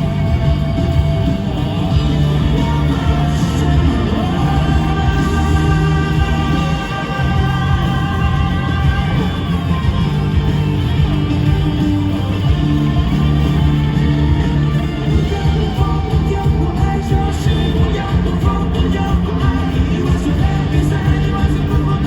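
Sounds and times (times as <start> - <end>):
rock band playing live: 0.0 - 22.0
sustained electric guitar lines: 0.0 - 22.0.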